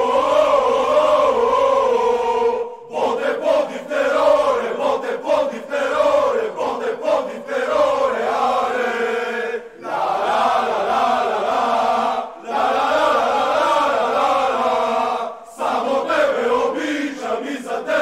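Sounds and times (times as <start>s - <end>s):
crowd singing a chant in unison: 0.0s - 18.0s.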